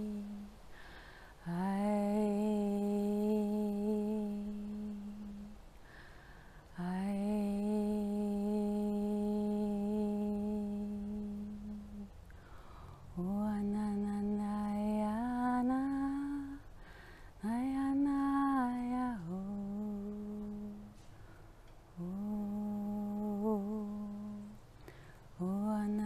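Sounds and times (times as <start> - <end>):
woman humming wordless tones: 0.0 - 0.6, 1.4 - 5.6, 6.6 - 12.3, 13.1 - 16.8, 17.4 - 21.0, 21.9 - 24.7, 25.4 - 26.0.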